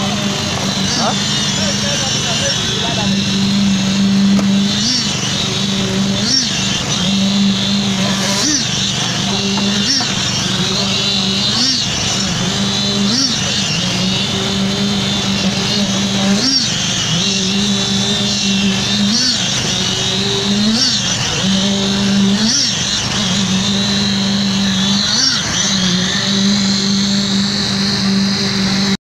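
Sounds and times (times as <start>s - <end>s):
concrete vibrator humming: 0.0s - 29.0s.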